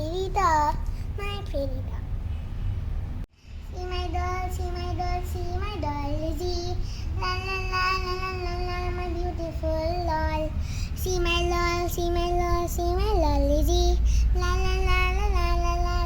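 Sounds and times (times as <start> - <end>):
child singing: 0.0 - 2.0, 3.6 - 16.0.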